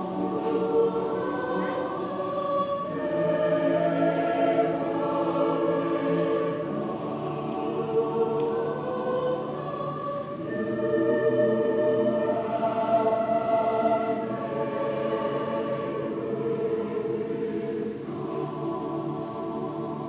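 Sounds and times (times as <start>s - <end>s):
mixed choir singing sustained chords: 0.0s - 20.0s.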